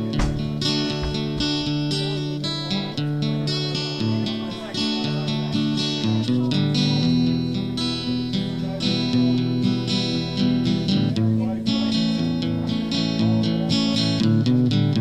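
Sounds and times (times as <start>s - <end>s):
country guitar music: 0.0s - 15.0s.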